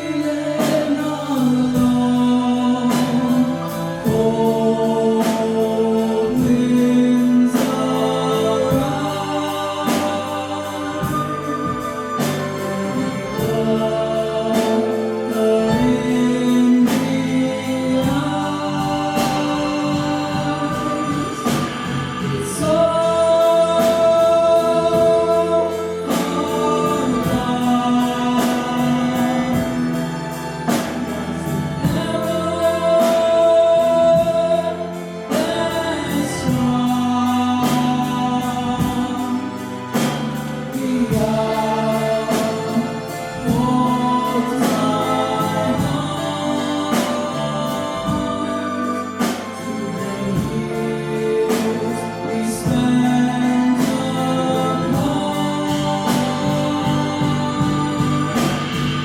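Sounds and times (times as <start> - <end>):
voices singing over a beat: 0.0 - 59.0.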